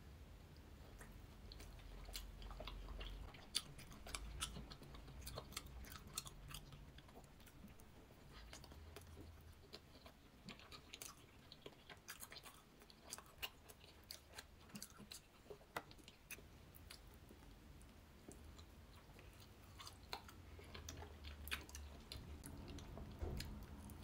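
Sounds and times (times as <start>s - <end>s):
person chewing soft bun: 0.8s - 24.0s.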